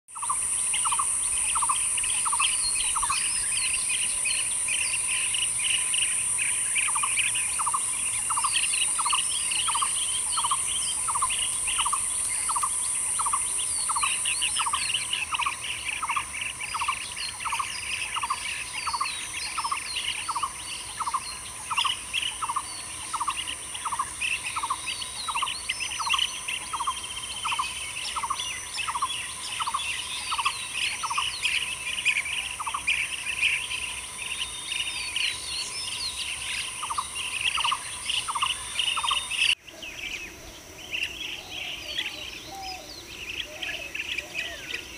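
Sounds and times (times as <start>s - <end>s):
birds chirping: 0.1s - 44.9s
high-pitched insect drone: 0.1s - 44.9s.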